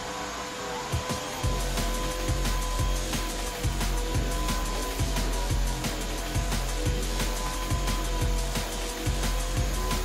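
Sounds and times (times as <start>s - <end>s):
meat grinder motor whine: 0.0s - 10.0s.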